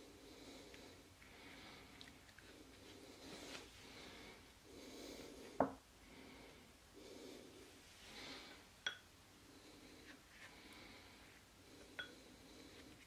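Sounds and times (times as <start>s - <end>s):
faint breathing: 0.0s - 8.8s, 9.4s - 13.0s.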